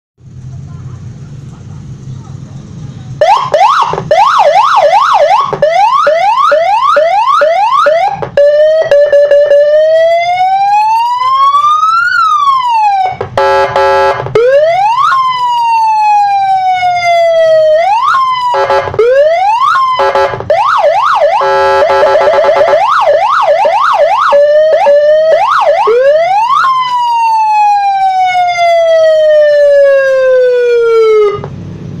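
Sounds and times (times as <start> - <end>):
electronic siren yelps and wails: 3.2 - 31.5.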